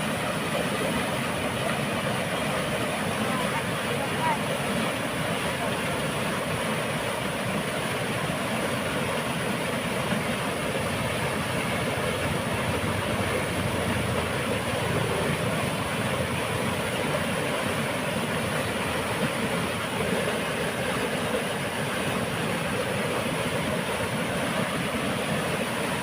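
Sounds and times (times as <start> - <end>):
water rushing through dam: 0.0 - 26.0.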